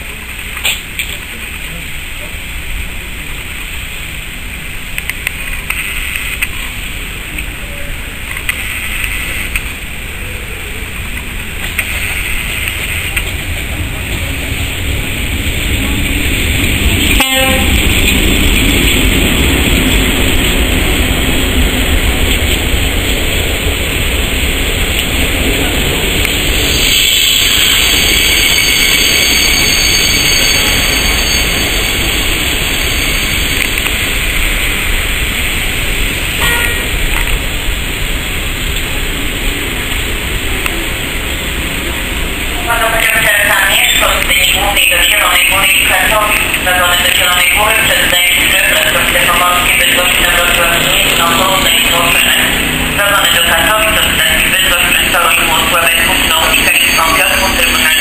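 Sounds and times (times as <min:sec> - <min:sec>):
passenger train rumbling on rails: 0:00.0 - 0:58.0.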